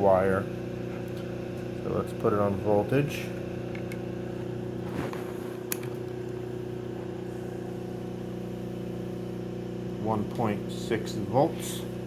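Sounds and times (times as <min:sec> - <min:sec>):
generator rotor humming: 0:00.0 - 0:12.0.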